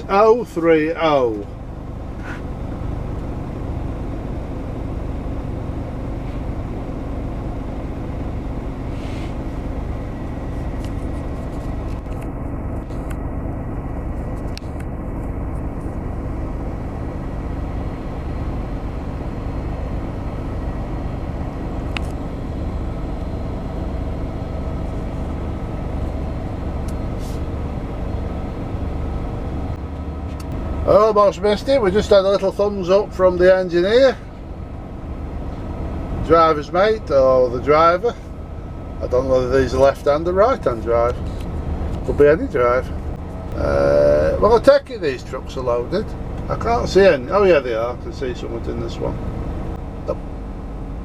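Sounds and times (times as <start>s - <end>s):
diesel locomotive engine droning: 0.0s - 51.0s.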